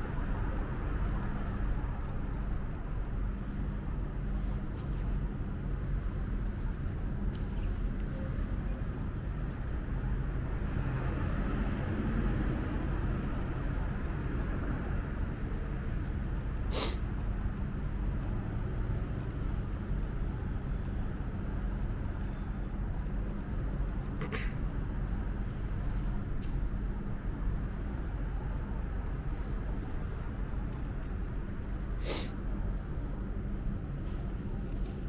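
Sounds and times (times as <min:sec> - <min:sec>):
subway platform hum: 0:00.0 - 0:35.0.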